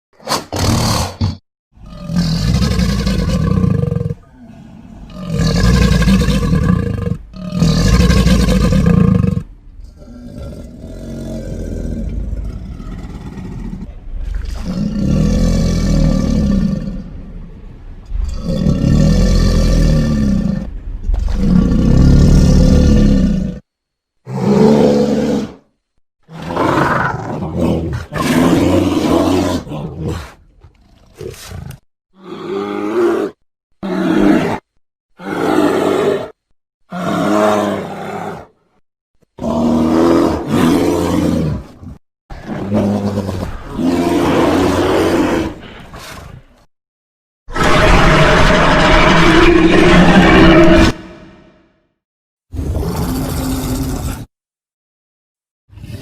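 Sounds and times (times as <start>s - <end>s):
dinosaur roars: 0.6s - 17.4s, 18.0s - 23.6s, 24.3s - 25.7s, 26.3s - 38.6s, 39.4s - 46.4s, 47.5s - 51.8s, 52.5s - 54.3s.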